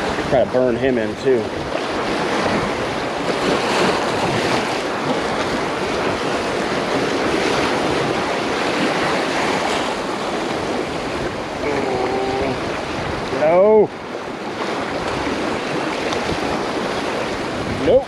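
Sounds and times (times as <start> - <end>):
surf breaking over rocks: 0.0 - 18.0
wind on microphone: 0.0 - 18.0.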